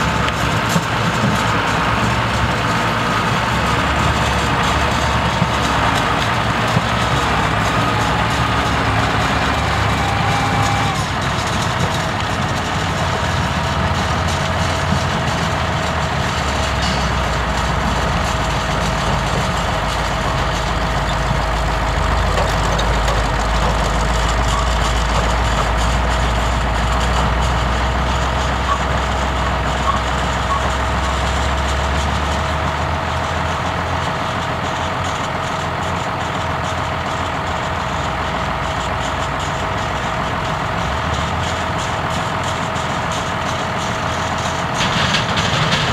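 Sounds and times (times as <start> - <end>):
harvester and trucks running: 0.0 - 45.9
truck engine rumble: 0.0 - 45.9.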